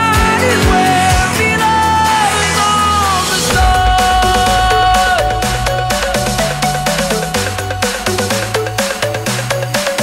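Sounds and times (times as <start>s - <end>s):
pop song with singing: 0.0s - 10.0s.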